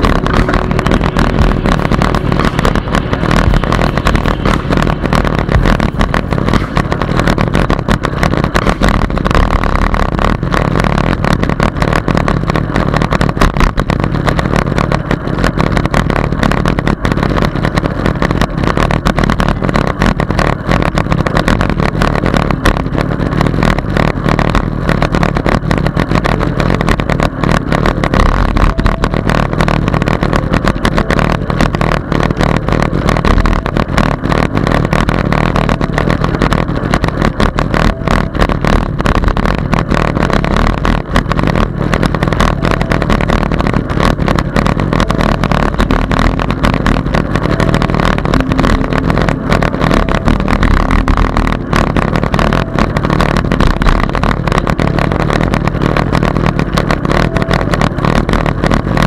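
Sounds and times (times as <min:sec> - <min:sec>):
bike rattling: 0:00.0 - 0:59.0
wind and road rumble: 0:00.0 - 0:59.0.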